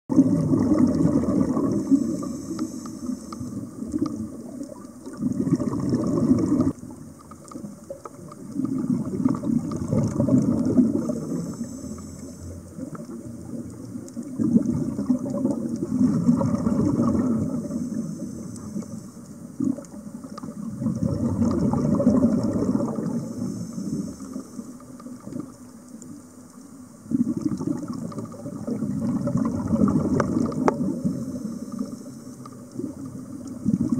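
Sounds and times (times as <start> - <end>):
exhaled breath bubbling underwater: 0.1 - 7.0, 7.6 - 25.6, 27.0 - 33.9
faint regulator hiss: 1.2 - 5.4, 6.2 - 9.8, 10.6 - 20.8, 22.6 - 28.9, 30.0 - 33.9.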